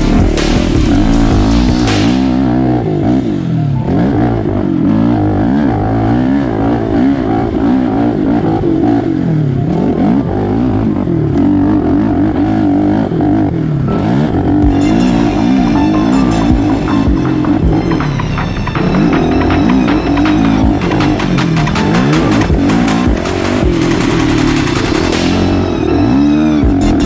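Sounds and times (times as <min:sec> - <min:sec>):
quad engine revving: 0:00.0 - 0:27.0.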